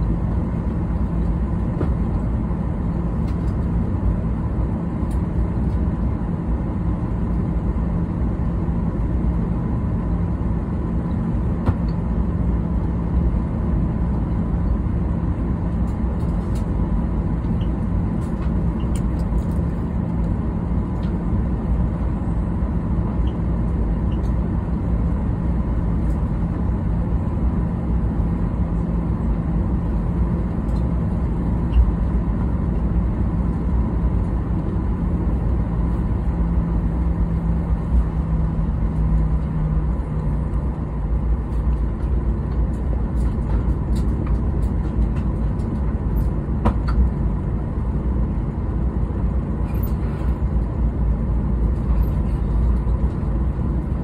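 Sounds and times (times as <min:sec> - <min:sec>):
jet engines at low thrust: 0:00.0 - 0:54.0.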